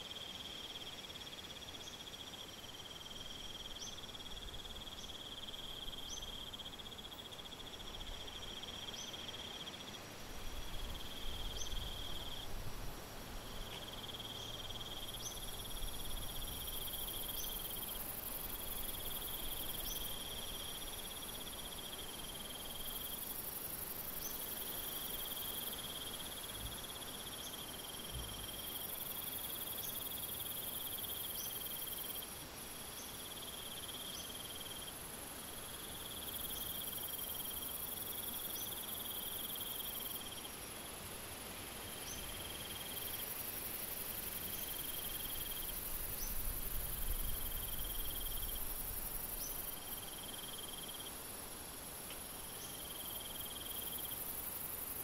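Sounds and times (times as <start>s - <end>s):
low insect trill: 0.0s - 12.5s, 13.4s - 55.0s
high hiss-like insect buzz: 0.0s - 55.0s.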